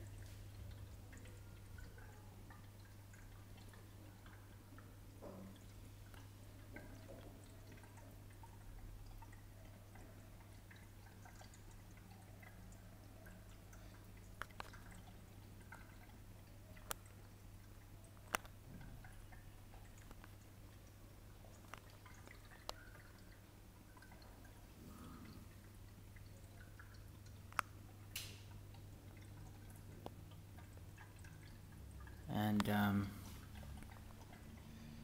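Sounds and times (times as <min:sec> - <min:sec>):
aquarium hum: 0:00.0 - 0:35.0
water drips and trickles: 0:00.0 - 0:35.0.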